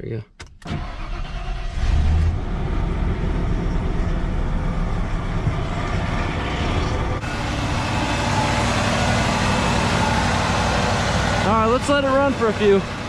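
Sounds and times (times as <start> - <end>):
engine running steadily: 2.3 - 13.0.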